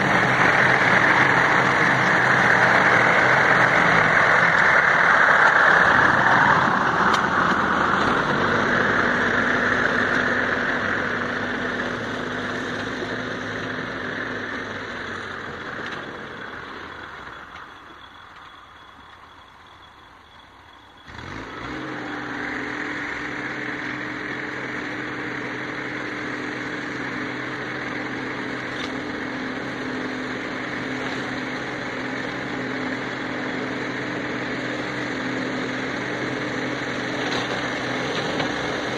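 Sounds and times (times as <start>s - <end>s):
boom mower running: 0.0s - 19.7s, 20.5s - 38.9s
tractor diesel engine: 0.0s - 38.9s.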